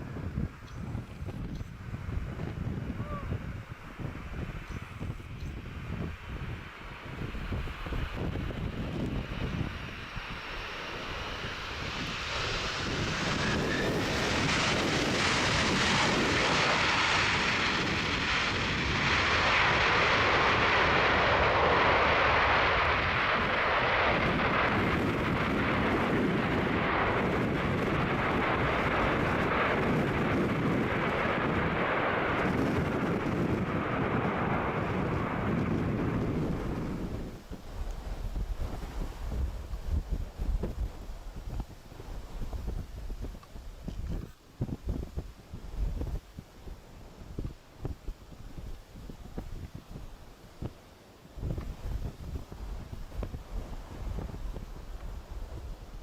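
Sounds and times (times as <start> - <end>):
jet engine noise: 0.0 - 56.0.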